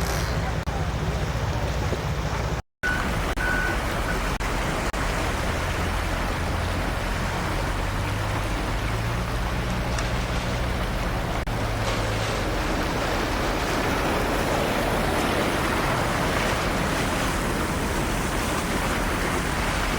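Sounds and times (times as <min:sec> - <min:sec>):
low engine drone: 0:00.0 - 0:19.9.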